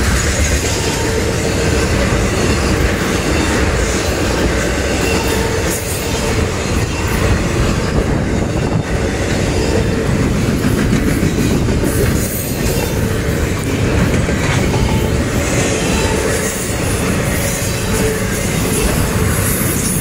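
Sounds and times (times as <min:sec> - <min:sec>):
steel wheels rolling on rails: 0:00.0 - 0:20.0.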